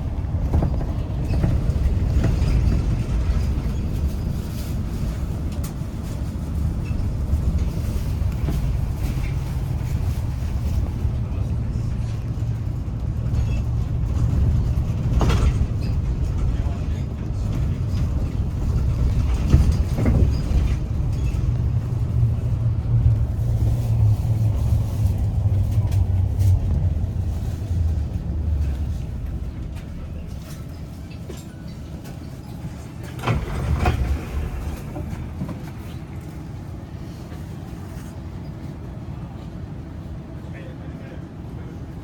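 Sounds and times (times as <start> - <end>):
low rumble of moving vehicle: 0.0 - 42.0.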